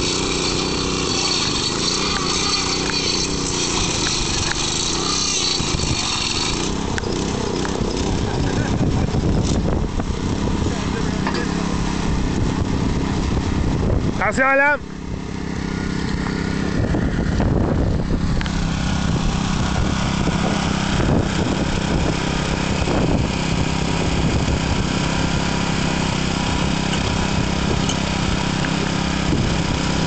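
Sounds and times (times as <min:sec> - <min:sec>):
gasoline engine running: 0:00.0 - 0:30.0.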